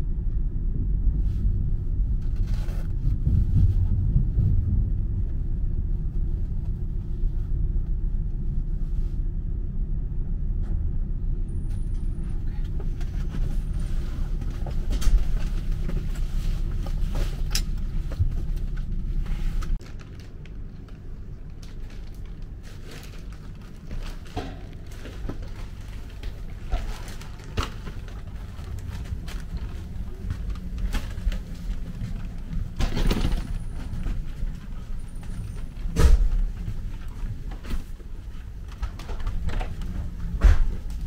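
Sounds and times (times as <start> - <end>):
train low rumble: 0.0 - 41.0.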